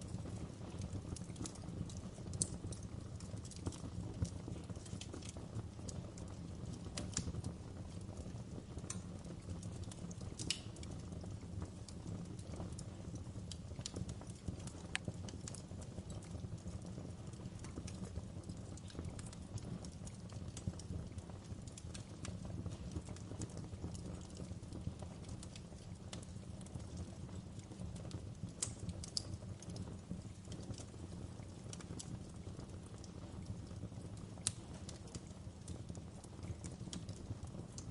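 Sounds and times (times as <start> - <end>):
wood fire burning: 0.0 - 37.9.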